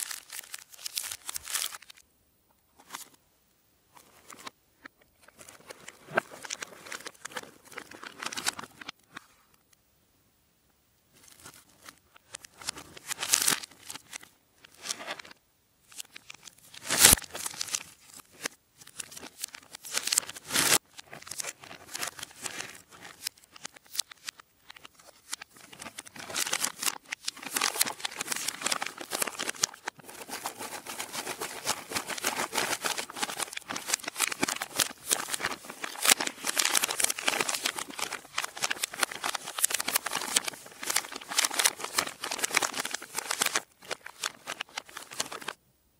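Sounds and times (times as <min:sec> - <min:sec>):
plastic pouch crinkling: 0:00.0 - 0:02.0, 0:05.3 - 0:08.9, 0:11.2 - 0:15.3, 0:15.9 - 0:45.6.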